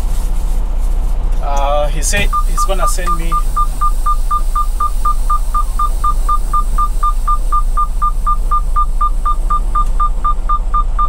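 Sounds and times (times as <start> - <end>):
diesel engine idling: 0.0 - 11.0
rapid electronic warning beeps: 2.1 - 11.0.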